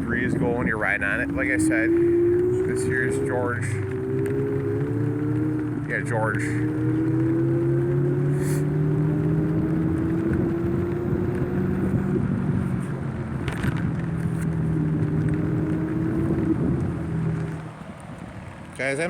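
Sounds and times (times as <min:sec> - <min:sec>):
electric scooter motor hum: 0:00.0 - 0:19.0
wind rushing over microphone: 0:00.0 - 0:19.0.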